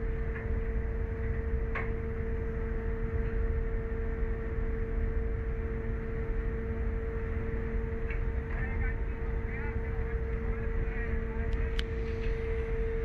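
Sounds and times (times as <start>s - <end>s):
ship machinery rumble: 0.0s - 13.0s
steady humming tone: 0.0s - 13.0s.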